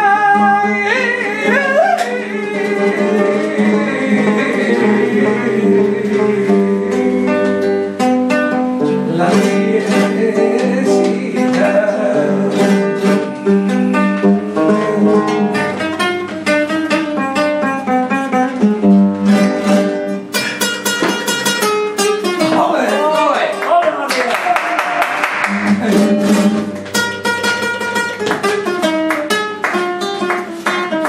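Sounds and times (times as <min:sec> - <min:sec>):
flamenco acoustic guitar: 0:00.0 - 0:31.0.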